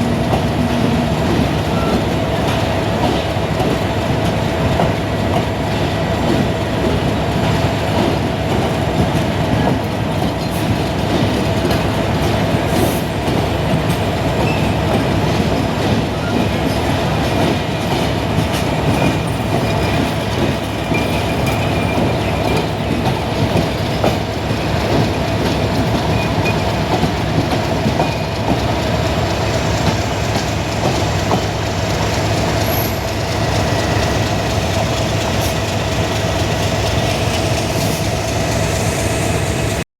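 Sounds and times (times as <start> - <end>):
train wheels clacking on rail joints: 0.0 - 38.9.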